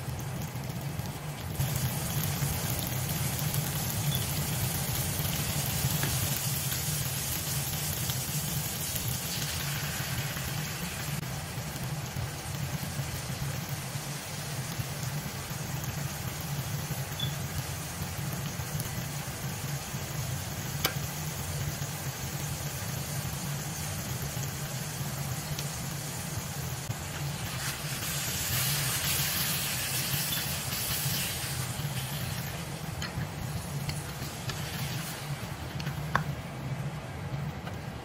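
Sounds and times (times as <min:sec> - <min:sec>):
meat and peppers sizzling in a wok: 0:00.0 - 0:37.5.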